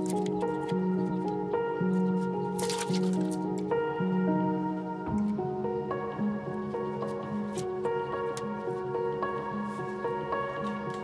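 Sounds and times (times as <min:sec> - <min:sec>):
background music sustained notes: 0:00.0 - 0:11.0.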